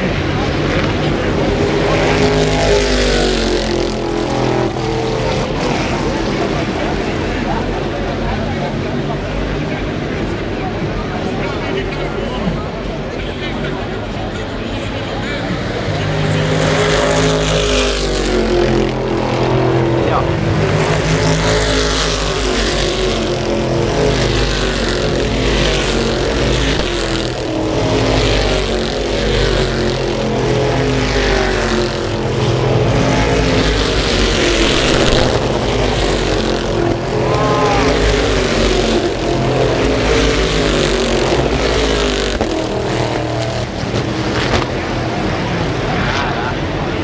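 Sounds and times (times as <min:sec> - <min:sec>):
race car engines passing: 0:00.0 - 0:47.0.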